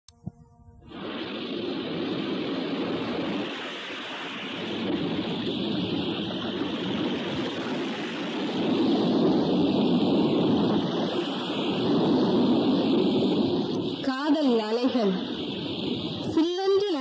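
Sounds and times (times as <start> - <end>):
waves breaking: 0.9 - 17.0.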